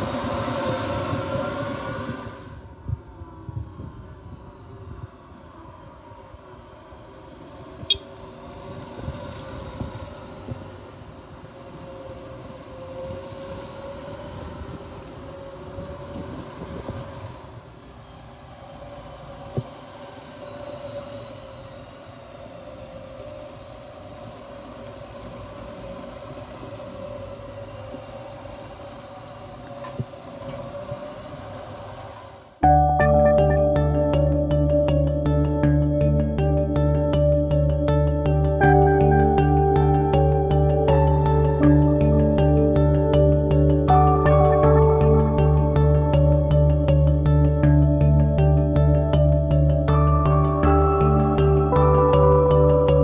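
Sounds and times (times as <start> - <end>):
road noise: 0.0 - 53.0
vehicle engine drone: 0.0 - 53.0.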